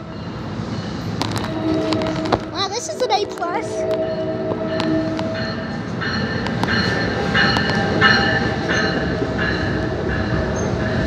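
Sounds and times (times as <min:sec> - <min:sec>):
train wheels rumbling on rail: 0:00.0 - 0:11.0
high metallic squeal: 0:00.1 - 0:09.1.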